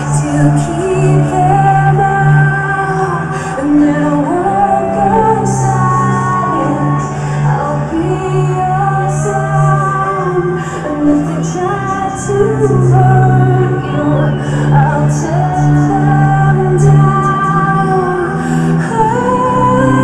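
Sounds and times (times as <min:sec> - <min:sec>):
sung vocal line: 0:00.0 - 0:20.0.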